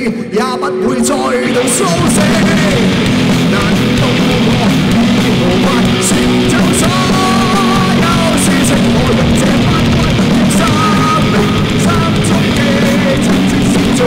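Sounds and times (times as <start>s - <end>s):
live rock band playing: 0.4s - 14.0s.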